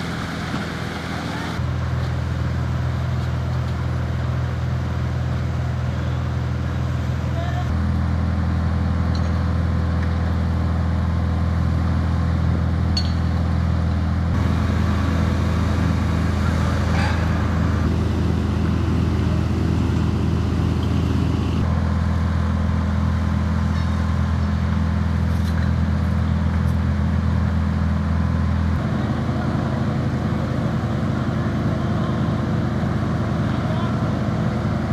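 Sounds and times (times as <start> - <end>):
pump engines humming: 0.0 - 34.9.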